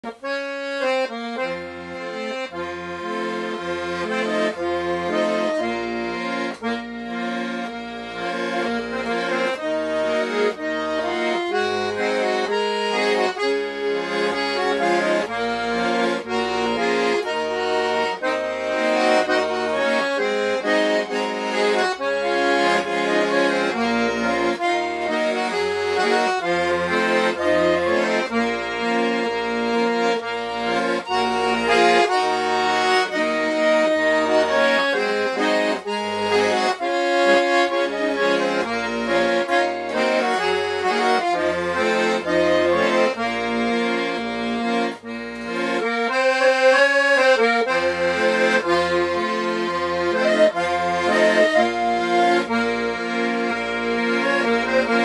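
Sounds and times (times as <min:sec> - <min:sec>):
button accordion folk tune: 0:00.0 - 0:55.0.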